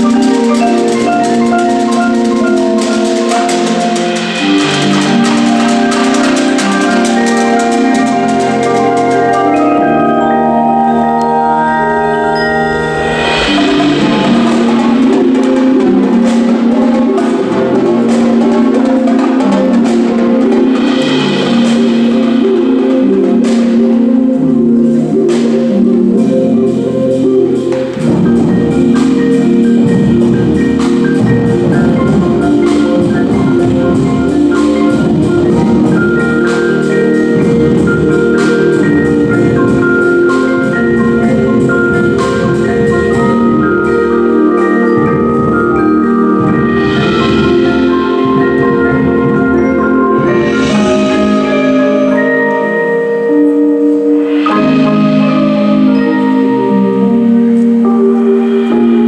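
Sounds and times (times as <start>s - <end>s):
marching drums: 0.0s - 10.0s, 12.8s - 25.7s, 27.8s - 52.2s
struck percussion accent: 0.0s - 25.7s, 27.7s - 53.5s
long held chords: 0.0s - 59.0s
marimbas playing: 0.0s - 59.0s.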